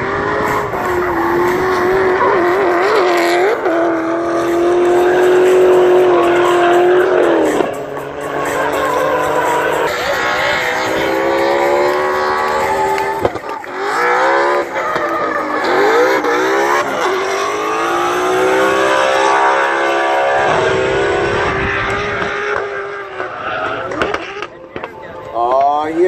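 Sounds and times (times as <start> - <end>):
car engine revving hard: 0.0 - 24.6.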